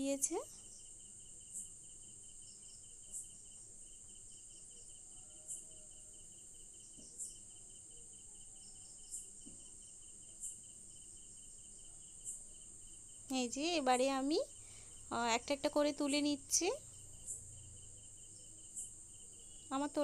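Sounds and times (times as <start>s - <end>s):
cricket chirp: 0.0s - 20.0s
crickets trilling: 0.0s - 20.0s.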